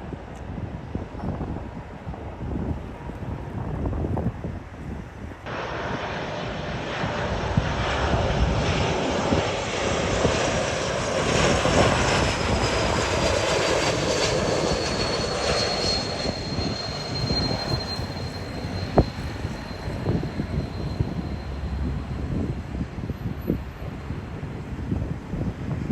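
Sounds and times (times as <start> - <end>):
jet airliner roaring and whining: 0.0 - 25.9.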